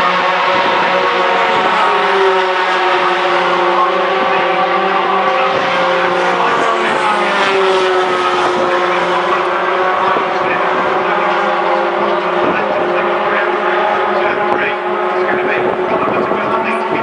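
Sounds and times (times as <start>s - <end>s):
racing truck engines: 0.0s - 17.0s.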